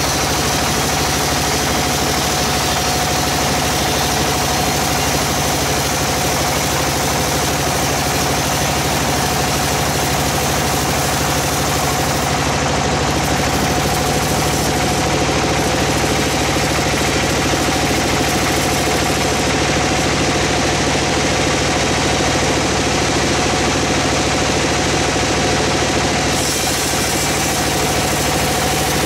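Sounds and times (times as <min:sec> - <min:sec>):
band saw cutting log: 0:00.0 - 0:21.1, 0:25.6 - 0:29.0.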